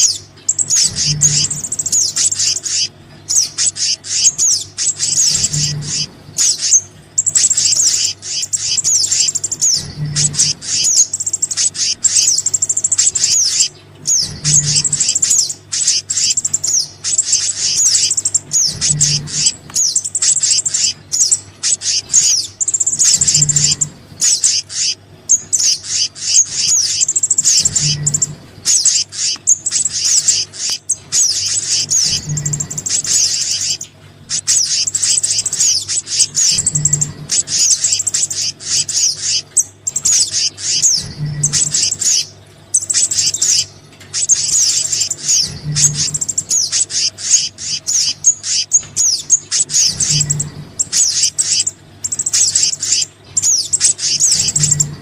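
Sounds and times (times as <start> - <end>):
bird chirps and trills: 0.0 - 55.0
low hum: 0.0 - 55.0.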